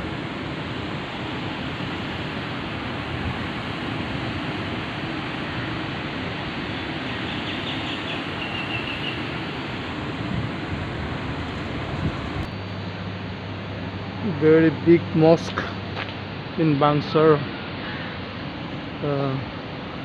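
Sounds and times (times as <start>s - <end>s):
street ambience hiss: 0.0s - 20.0s.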